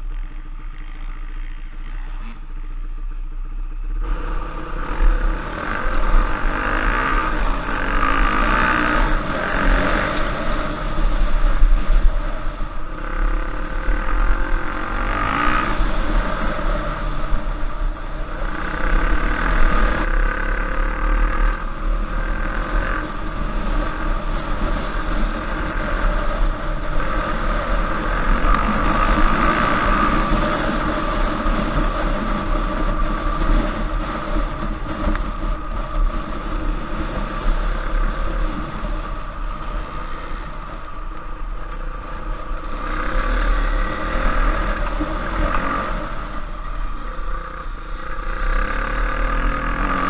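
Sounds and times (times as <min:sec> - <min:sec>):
trail bike engine revving: 0:00.0 - 0:50.0.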